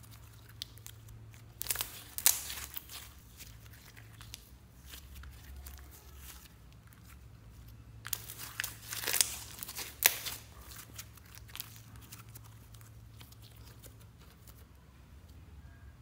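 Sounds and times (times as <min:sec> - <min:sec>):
slime crackling and popping: 0:00.0 - 0:14.6.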